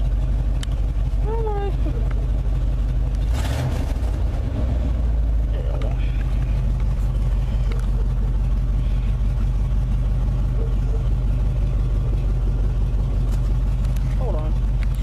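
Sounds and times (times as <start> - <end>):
pickup truck engine running: 0.0 - 15.0.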